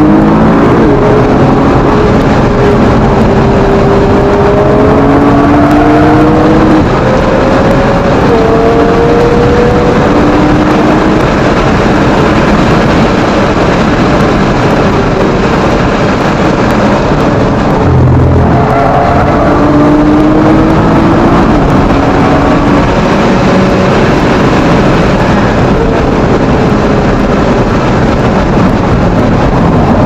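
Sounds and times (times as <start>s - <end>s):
car engine at speed: 0.0s - 30.0s
wind and road noise: 0.0s - 30.0s.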